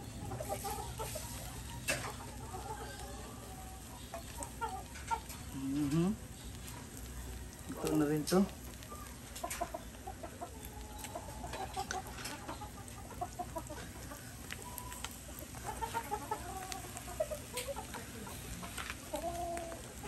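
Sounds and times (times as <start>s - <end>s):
charcoal fire crackling: 0.0s - 20.0s
chickens clucking: 0.0s - 20.0s.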